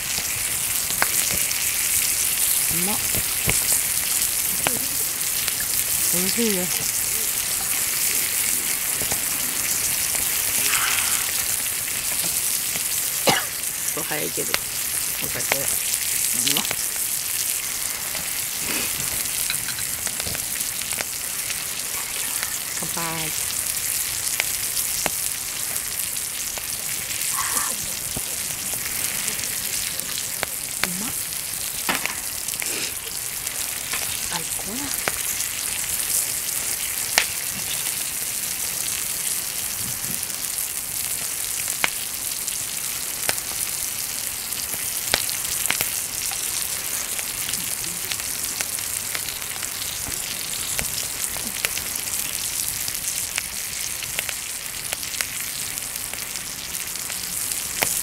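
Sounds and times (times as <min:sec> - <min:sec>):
meat sizzling on grill: 0:00.0 - 0:58.0
wood fire crackling and popping: 0:00.0 - 0:58.0.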